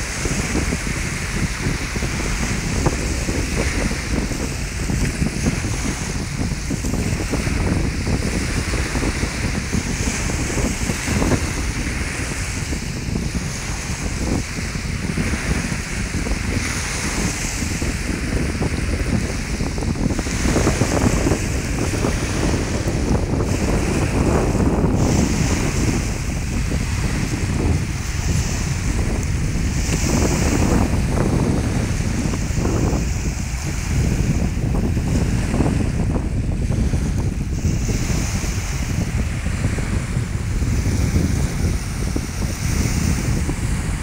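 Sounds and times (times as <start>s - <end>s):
small waves breaking on beach: 0.0s - 44.0s
wind buffeting microphone: 0.0s - 44.0s.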